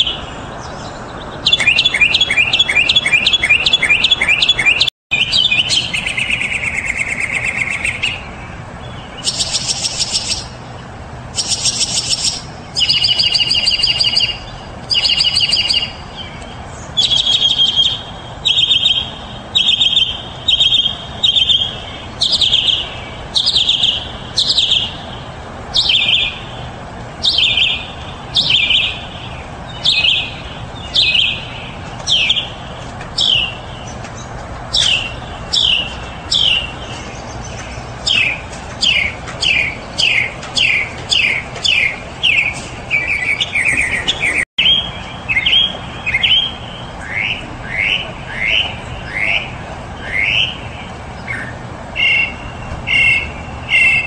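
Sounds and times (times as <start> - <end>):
mockingbird singing: 0.0 - 32.6, 33.2 - 54.0.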